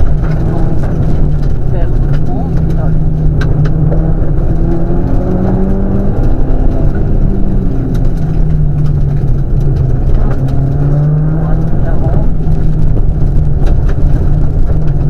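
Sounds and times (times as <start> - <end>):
rally car engine accelerating: 0.0 - 15.0
road and tyre noise: 0.0 - 15.0.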